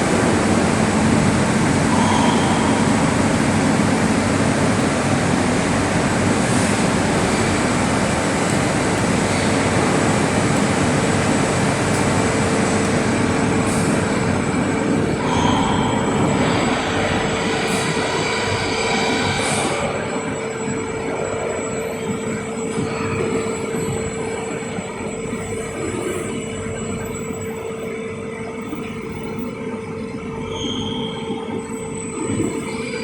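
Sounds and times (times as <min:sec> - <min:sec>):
metal lathe running: 0:00.0 - 0:30.5
mid-pitched hum: 0:00.0 - 0:33.0.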